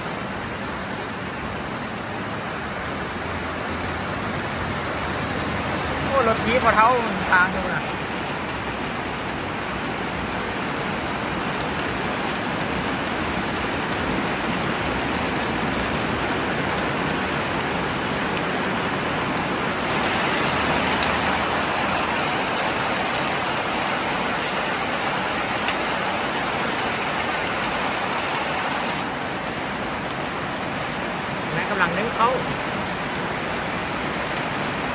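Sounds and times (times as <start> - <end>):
rain on metal roof: 0.0 - 34.9.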